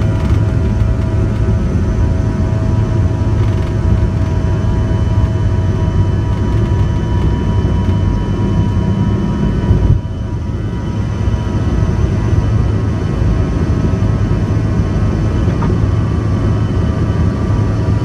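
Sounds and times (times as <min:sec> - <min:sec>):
jet engines rumbling in cabin: 0:00.0 - 0:18.0.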